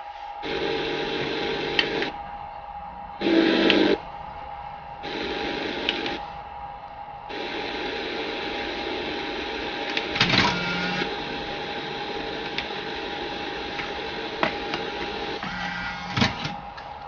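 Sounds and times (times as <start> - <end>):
constant tone: 0.0 - 17.0
steady hiss: 0.0 - 17.0
car stereo motor whirring: 0.4 - 17.0.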